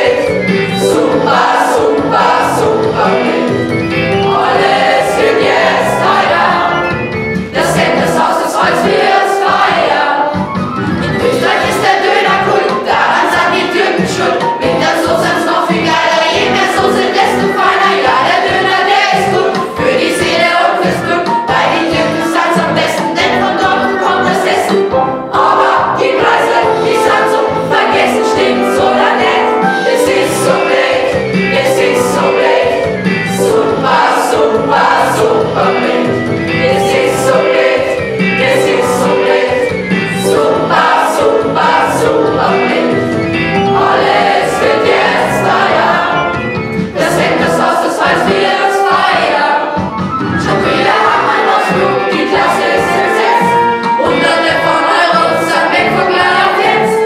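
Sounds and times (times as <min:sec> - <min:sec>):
children singing a pop song: 0:00.0 - 0:57.0.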